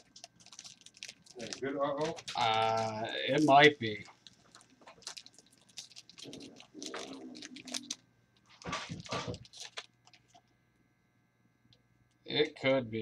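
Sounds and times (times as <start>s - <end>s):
foil wrapper crinkling: 0.0s - 10.5s.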